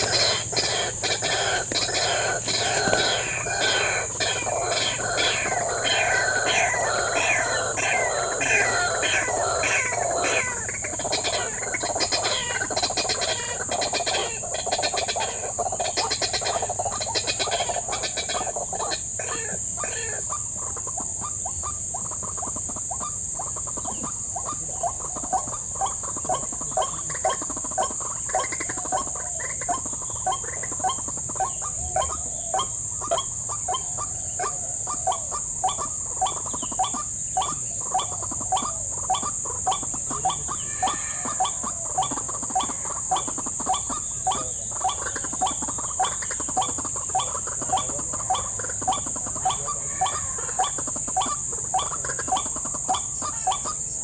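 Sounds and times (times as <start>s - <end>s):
high-pitched insect chorus: 0.0s - 54.0s
waterhen croaking call: 0.0s - 54.0s.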